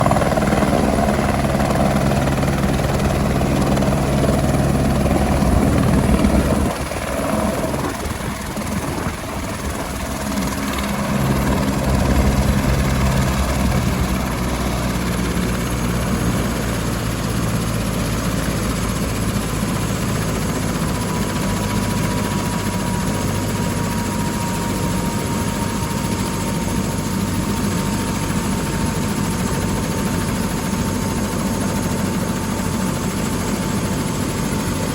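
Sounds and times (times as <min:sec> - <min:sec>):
helicopter rotor beating: 0:00.0 - 0:34.9.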